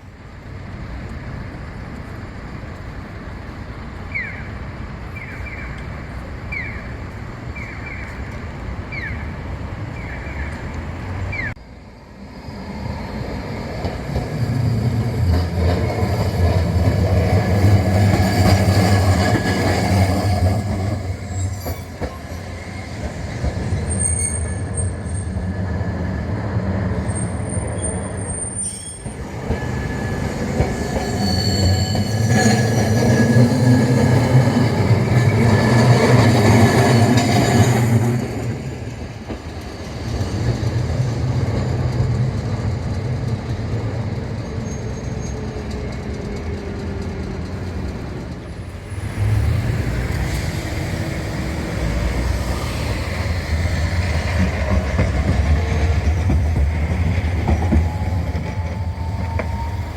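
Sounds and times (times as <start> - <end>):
streetcar rumbling on rails: 0.0 - 59.9
streetcar wheels squealing: 6.5 - 59.9.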